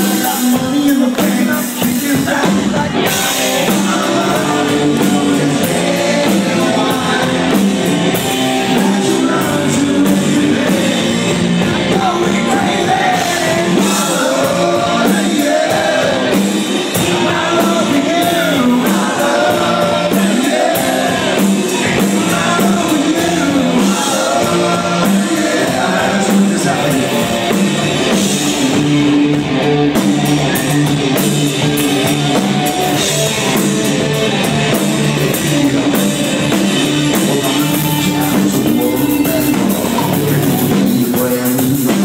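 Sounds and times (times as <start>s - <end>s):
person singing: 0.0s - 27.6s, 35.1s - 42.0s
drum kit: 0.0s - 42.0s
electric guitar: 0.0s - 42.0s.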